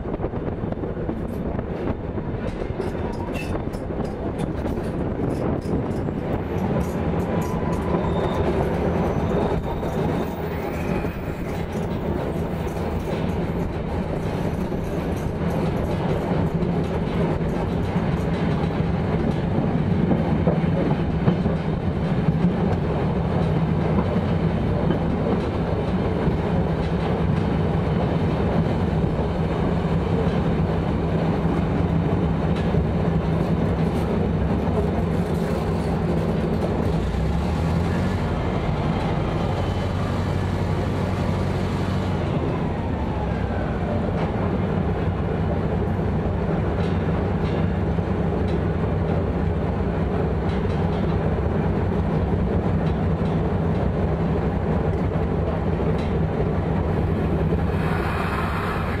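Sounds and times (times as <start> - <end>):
diesel locomotive engine under load: 0.0 - 59.0.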